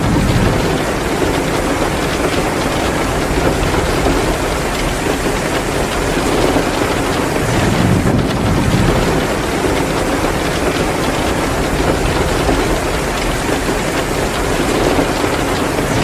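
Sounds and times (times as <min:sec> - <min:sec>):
heavy rain pouring: 0:00.0 - 0:16.0
wood fire crackling: 0:00.0 - 0:16.0.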